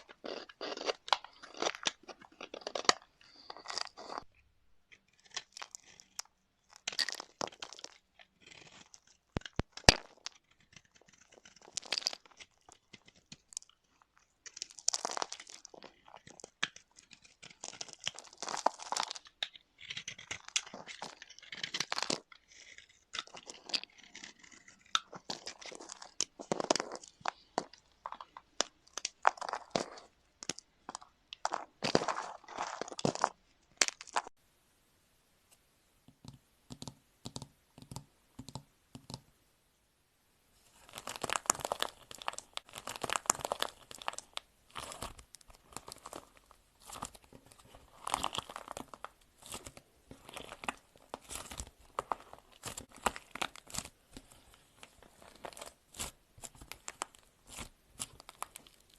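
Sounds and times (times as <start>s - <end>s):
crunching and crackling: 0.0s - 34.4s, 40.8s - 58.9s.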